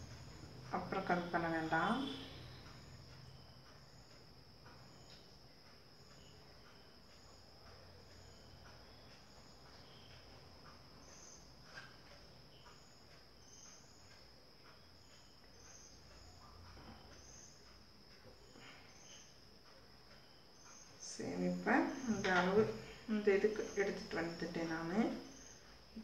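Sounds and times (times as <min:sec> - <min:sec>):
high-pitched insect chirping: 0:00.0 - 0:26.0.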